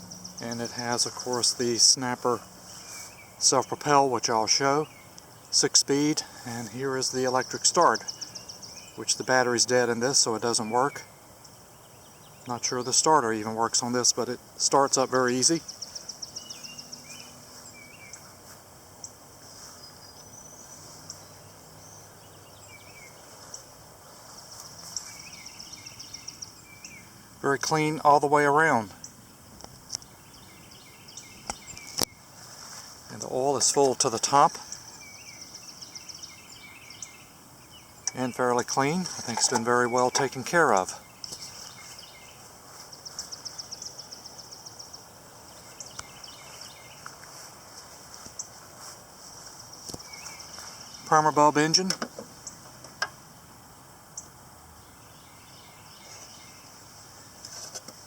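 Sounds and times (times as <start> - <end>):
bird chirps: 0.0 - 53.5, 54.1 - 58.0
outdoor background noise: 0.0 - 58.0.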